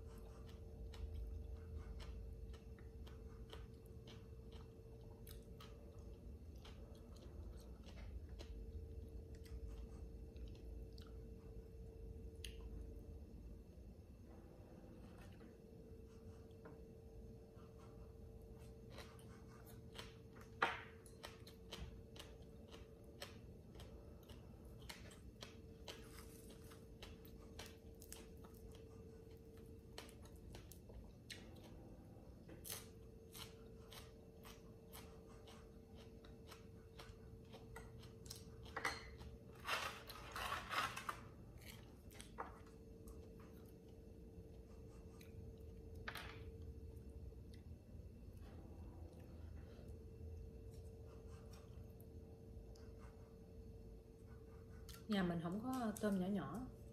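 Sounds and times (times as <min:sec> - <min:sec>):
faint steady hum: 0:00.0 - 0:56.9
soft chewing: 0:00.0 - 0:56.9.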